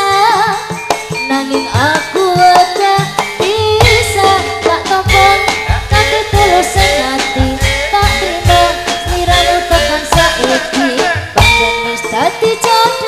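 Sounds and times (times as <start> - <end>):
drum beat: 0.0 - 13.0
gamelan music: 0.0 - 13.0
woman singing: 0.0 - 13.0.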